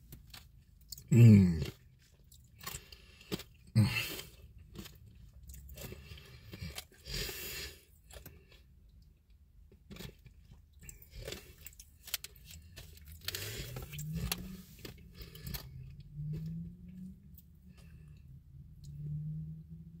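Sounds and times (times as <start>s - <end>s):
person chewing and crunching: 0.0s - 19.2s.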